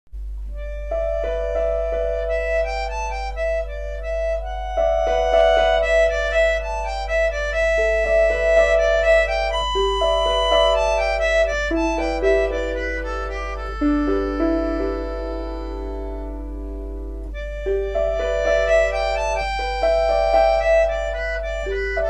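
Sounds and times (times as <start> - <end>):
low steady hum: 0.2 - 22.0
slow melodic background music: 0.6 - 22.0.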